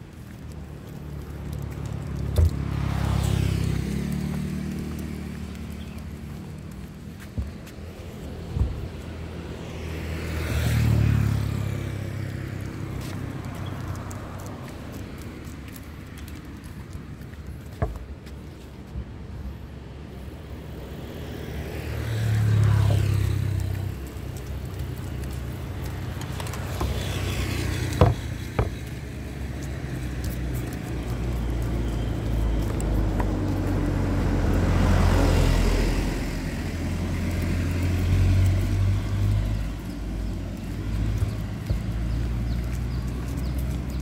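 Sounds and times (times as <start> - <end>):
road vehicles passing: 0.0 - 44.0.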